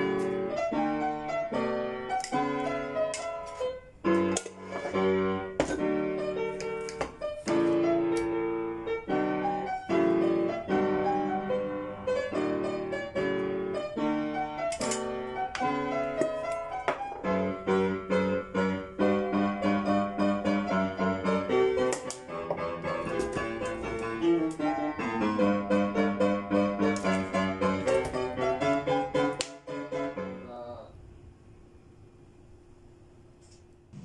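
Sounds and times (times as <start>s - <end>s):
background piano music: 0.0s - 31.9s.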